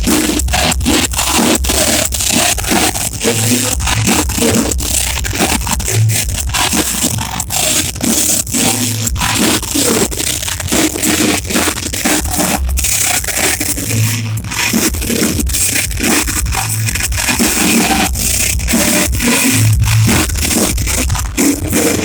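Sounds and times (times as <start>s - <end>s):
bass guitar: 0.0s - 22.0s
distorted electric guitars: 0.0s - 22.0s
pounding drums: 0.0s - 22.0s.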